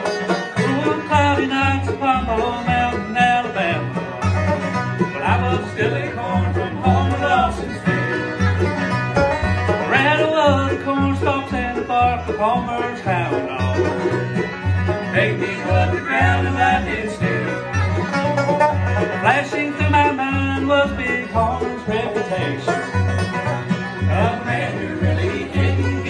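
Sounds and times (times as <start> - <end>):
acoustic guitar: 0.0 - 26.0
banjo: 0.0 - 26.0
fiddle: 0.0 - 26.0
mandolin: 0.0 - 26.0
upright bass plucking: 0.0 - 26.0.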